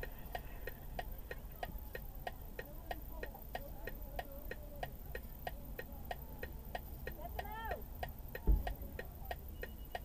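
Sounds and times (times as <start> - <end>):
car indicator ticking: 0.0 - 10.0.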